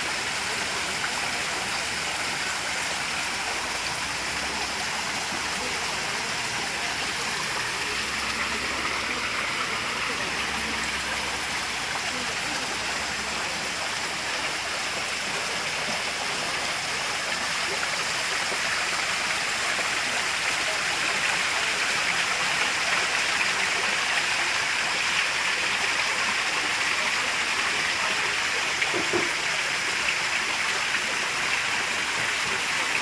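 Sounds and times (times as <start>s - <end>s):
water splashing over rocks: 0.0s - 33.0s.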